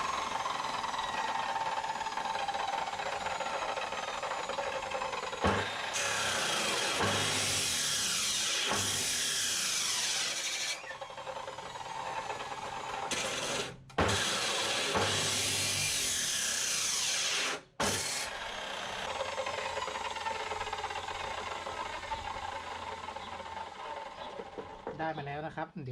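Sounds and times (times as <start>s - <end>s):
power tool grinding steel: 0.0s - 25.2s.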